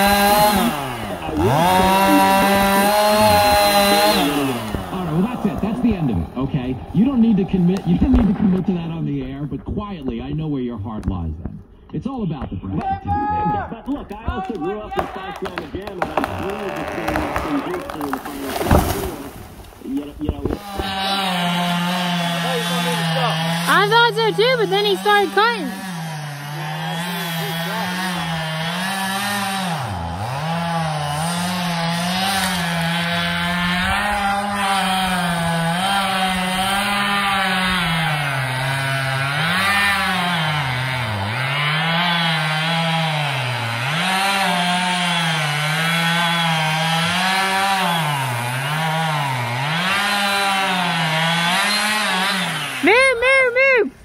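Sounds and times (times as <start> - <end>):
chainsaw cutting tree: 0.0 - 9.1, 13.8 - 53.9.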